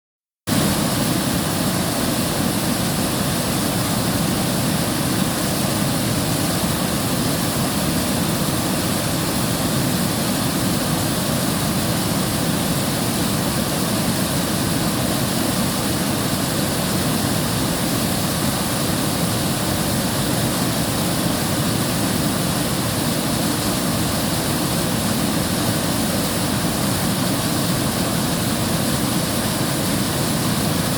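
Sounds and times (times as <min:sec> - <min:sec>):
river water rushing: 0:00.5 - 0:30.9.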